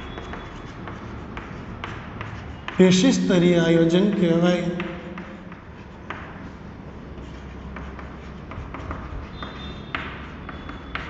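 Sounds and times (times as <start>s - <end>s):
chalk on a chalkboard: 0.0s - 11.0s.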